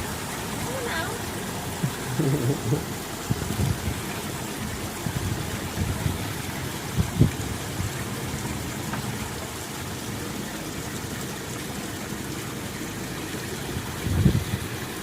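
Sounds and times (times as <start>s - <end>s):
water gushing: 0.0s - 15.0s.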